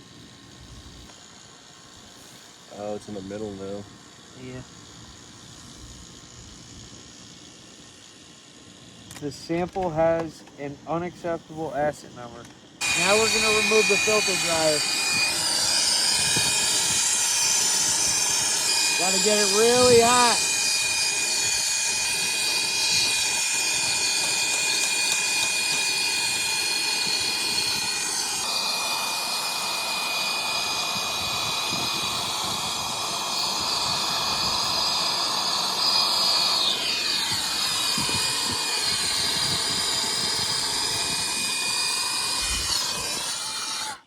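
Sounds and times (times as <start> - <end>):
steady whining tones: 0.0 - 44.0
brazing torch flame hissing: 8.0 - 44.0.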